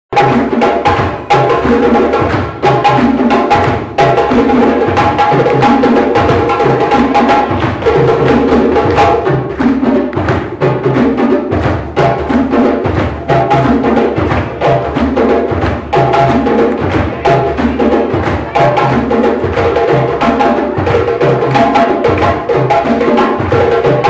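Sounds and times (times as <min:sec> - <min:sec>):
hand drums playing fast rhythm: 0:00.1 - 0:24.0.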